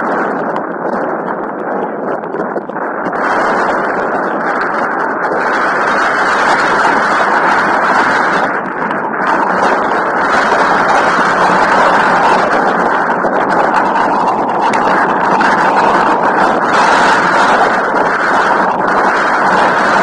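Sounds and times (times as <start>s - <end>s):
rain: 0.0s - 20.0s
wind noise on microphone: 0.0s - 20.0s.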